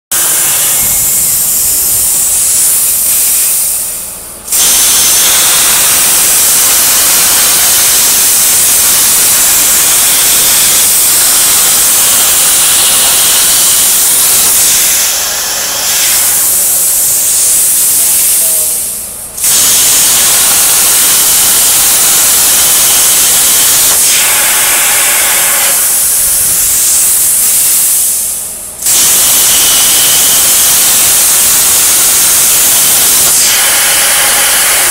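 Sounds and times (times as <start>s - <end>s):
plasma cutter torch hissing: 0.1s - 34.9s.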